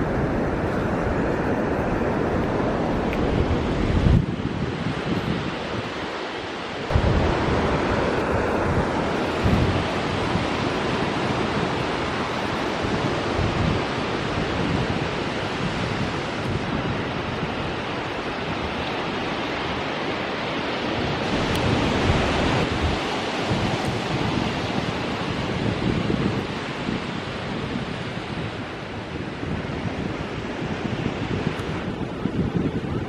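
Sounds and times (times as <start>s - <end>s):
waves breaking on a beach: 0.0s - 33.0s
wind buffeting microphone: 0.0s - 33.0s.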